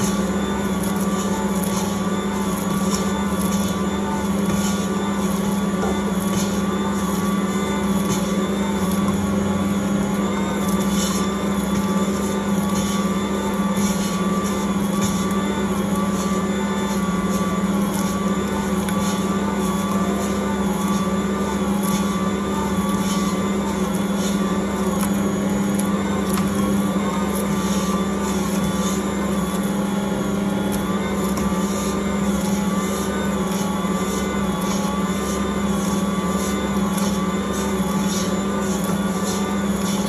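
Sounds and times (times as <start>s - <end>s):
stand mixer motor humming: 0.0s - 40.0s.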